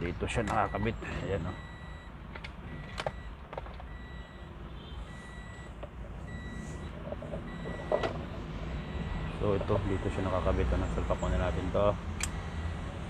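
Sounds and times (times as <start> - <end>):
car warning chime beeping: 0.4 - 12.8.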